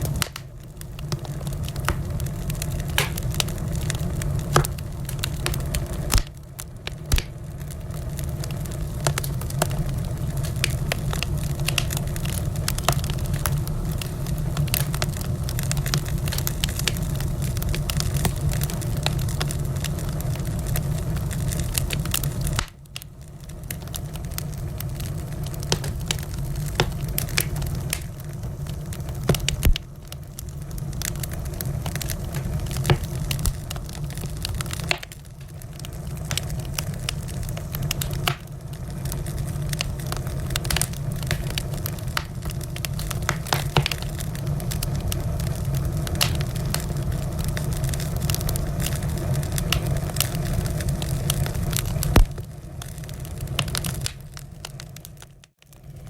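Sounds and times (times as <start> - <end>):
fire low rush: 0.0 - 55.2
wood crackling and popping: 0.0 - 56.0.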